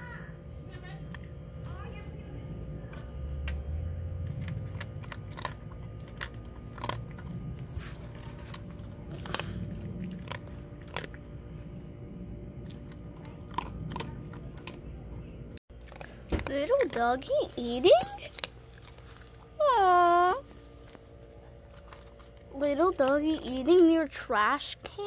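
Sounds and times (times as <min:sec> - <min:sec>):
dog chewing and crunching food: 0:00.6 - 0:02.0, 0:02.7 - 0:25.0.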